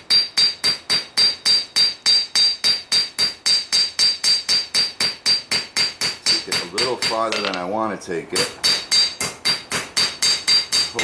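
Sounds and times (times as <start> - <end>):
hammer striking metal on anvil: 0.1 - 7.7, 8.4 - 11.0.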